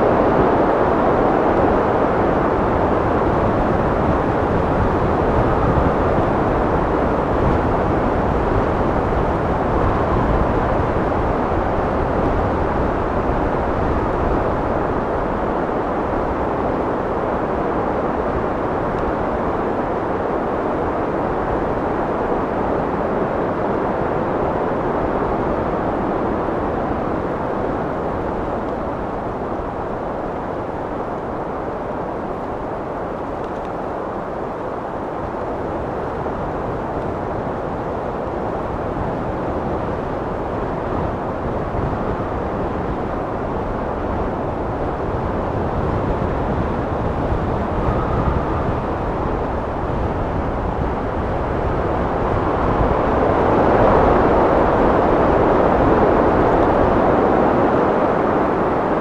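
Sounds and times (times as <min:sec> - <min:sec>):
wind blowing: 0:00.0 - 0:59.0.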